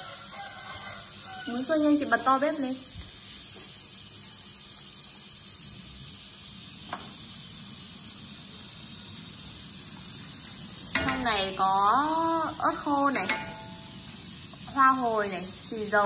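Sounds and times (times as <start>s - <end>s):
gas burner hissing: 0.0s - 16.0s.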